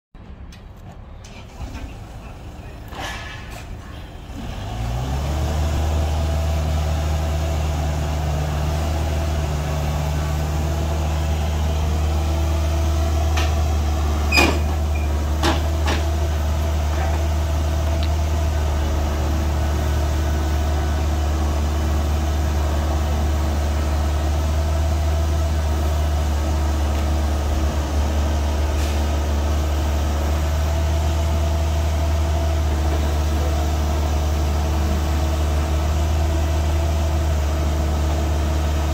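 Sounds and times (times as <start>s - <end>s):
diesel engine running with deep hum: 1.2s - 38.9s.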